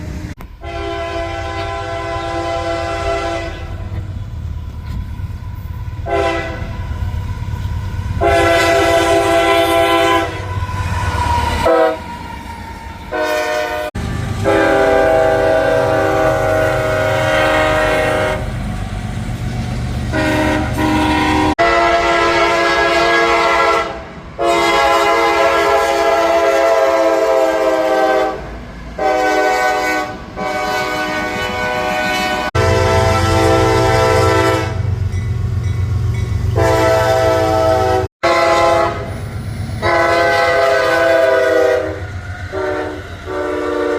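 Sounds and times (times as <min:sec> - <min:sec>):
passing train rumble: 0:00.0 - 0:43.9
locomotive air horn blasts: 0:00.6 - 0:04.0, 0:06.0 - 0:07.0, 0:08.2 - 0:12.1, 0:13.1 - 0:18.6, 0:20.1 - 0:35.0, 0:36.5 - 0:39.2, 0:39.8 - 0:43.9.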